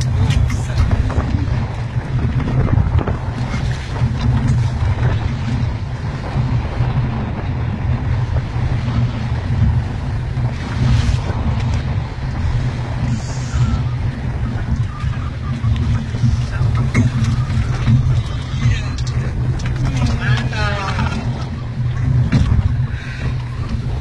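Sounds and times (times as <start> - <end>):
boat noise: 0.0 - 24.0
waves: 0.0 - 24.0
wind buffeting microphone: 0.0 - 24.0.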